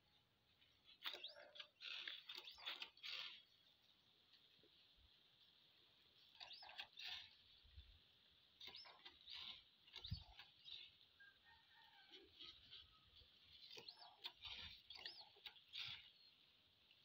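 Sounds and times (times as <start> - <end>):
faint high bird chirps: 0.0 - 4.0, 6.2 - 8.0, 8.6 - 17.0.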